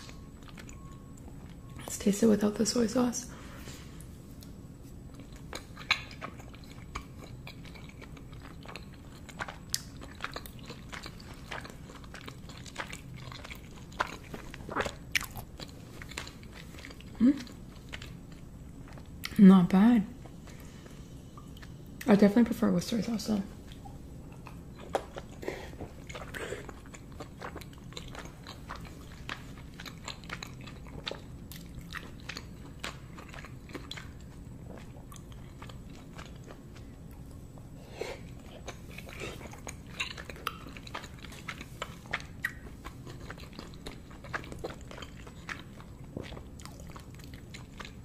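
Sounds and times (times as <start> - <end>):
chewing dumplings: 0.0 - 1.8, 4.0 - 19.4, 23.6 - 48.0.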